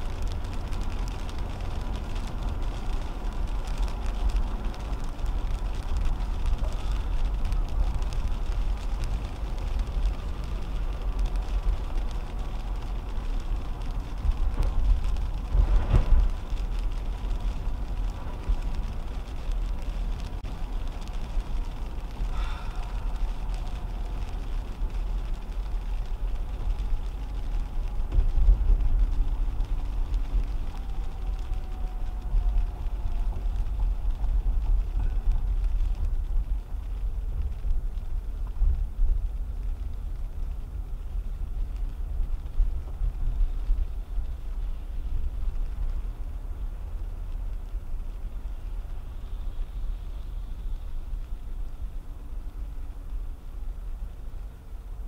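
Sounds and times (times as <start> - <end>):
road rumble and tyre noise: 0.0 - 55.0.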